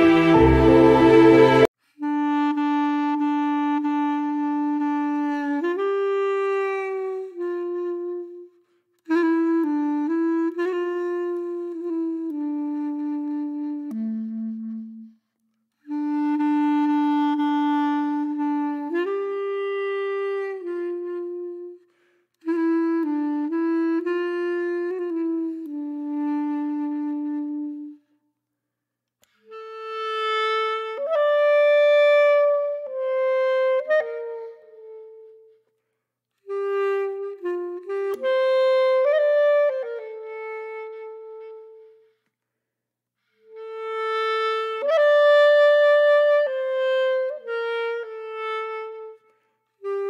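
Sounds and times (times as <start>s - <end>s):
slow solo woodwind melody: 0.0s - 28.2s, 29.2s - 42.3s, 43.2s - 50.0s.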